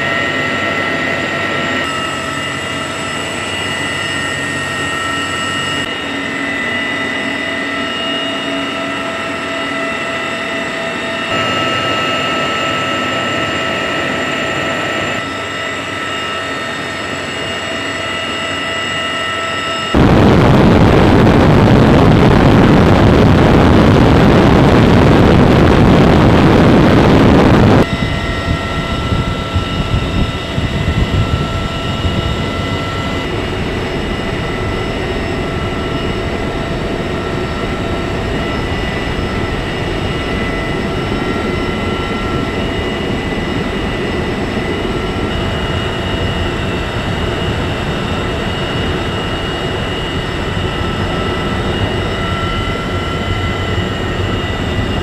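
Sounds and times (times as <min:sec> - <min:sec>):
aircraft rushing roar: 0:00.0 - 0:55.0
helicopter turbines and rotor whine: 0:00.0 - 0:55.0.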